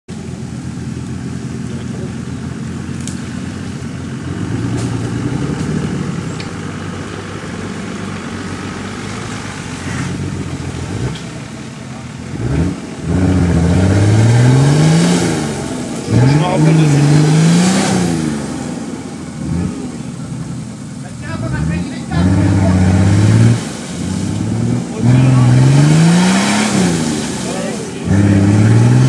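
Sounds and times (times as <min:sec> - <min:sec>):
car engine labouring in mud: 0:00.1 - 0:29.0.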